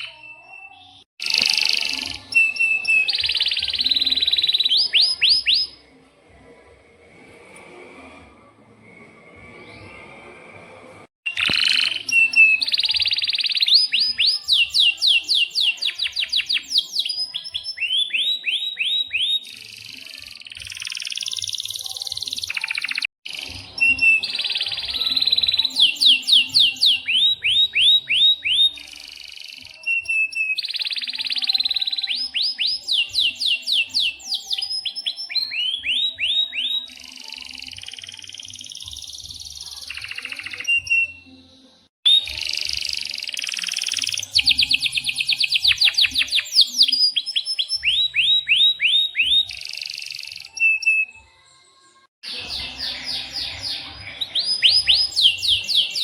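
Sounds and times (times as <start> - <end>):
canary singing: 0.0 - 5.8, 11.3 - 51.3, 52.2 - 56.0.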